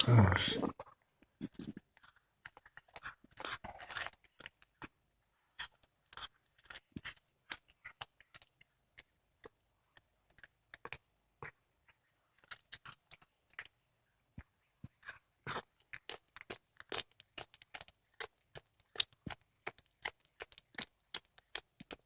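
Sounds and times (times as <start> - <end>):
cat chewing and crunching bone: 0.7 - 22.0.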